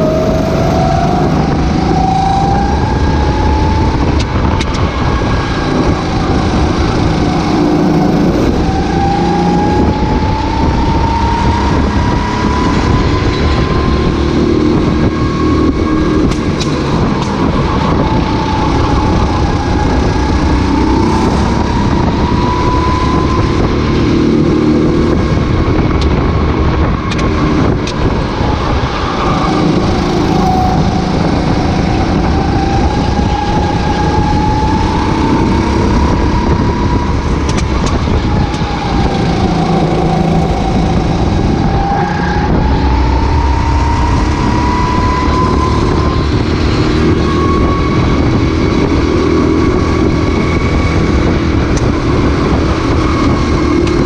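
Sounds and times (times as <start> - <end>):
racing kart engine accelerating: 0.0 - 54.0.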